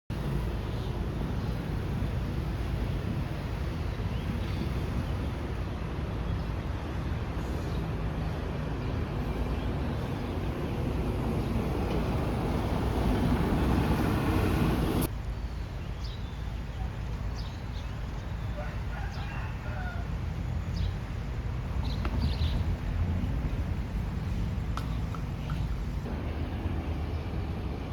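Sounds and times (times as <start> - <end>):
low engine rumble: 0.2 - 18.9, 19.5 - 27.9.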